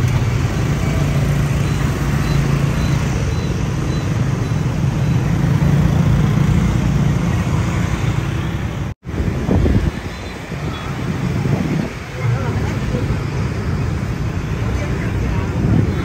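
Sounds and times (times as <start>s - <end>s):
road traffic engine rumble: 0.0s - 16.0s.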